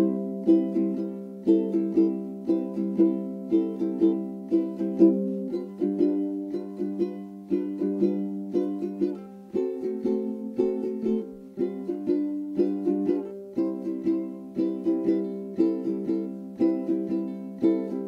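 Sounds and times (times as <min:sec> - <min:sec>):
plucked string instrument tune: 0:00.0 - 0:18.0.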